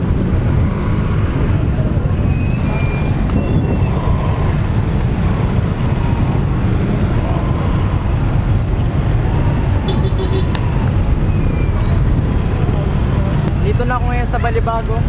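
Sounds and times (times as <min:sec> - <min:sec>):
low traffic rumble: 0:00.0 - 0:15.0
motorcycles passing close: 0:00.0 - 0:15.0.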